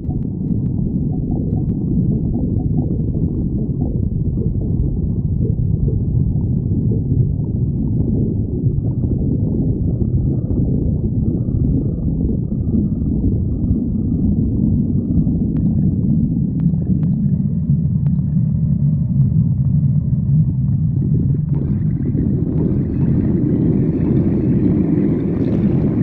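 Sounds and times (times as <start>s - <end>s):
stomach growling: 0.0s - 26.0s.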